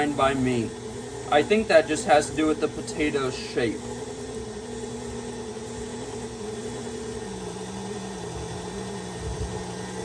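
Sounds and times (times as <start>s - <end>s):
stand mixer motor running: 0.0s - 10.0s.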